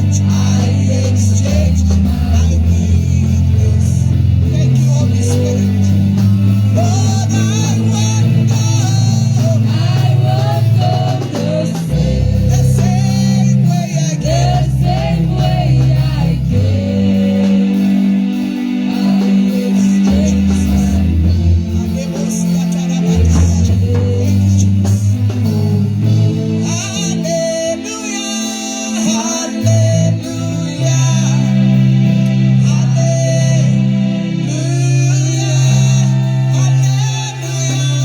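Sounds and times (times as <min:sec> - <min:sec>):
heavy sustained bass line: 0:00.0 - 0:28.0, 0:29.2 - 0:38.0
guitar: 0:00.0 - 0:38.0
voices singing: 0:00.0 - 0:38.0.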